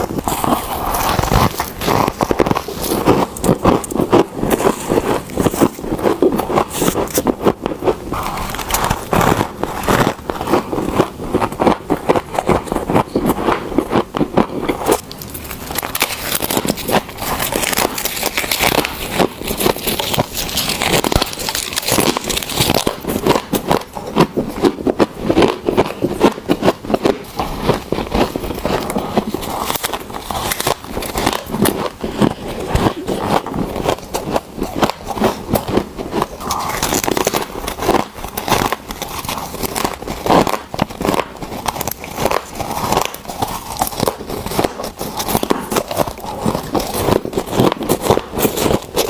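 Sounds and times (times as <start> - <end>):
frost crunching being chewed: 0.0 - 49.0.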